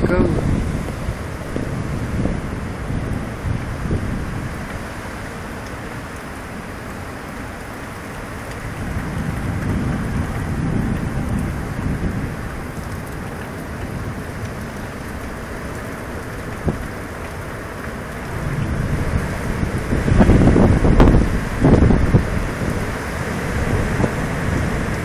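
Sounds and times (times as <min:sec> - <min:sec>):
heavy rain: 0:00.0 - 0:25.0
storm wind with rumbling gusts: 0:00.0 - 0:25.0.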